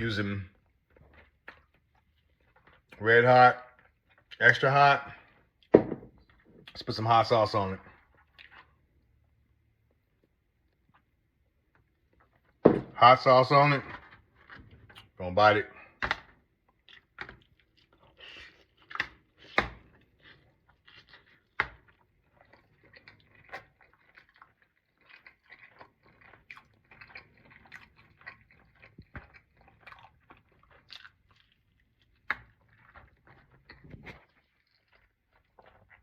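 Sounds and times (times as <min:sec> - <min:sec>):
person chewing with wet smacks: 0:00.2 - 0:12.6, 0:13.6 - 0:36.0.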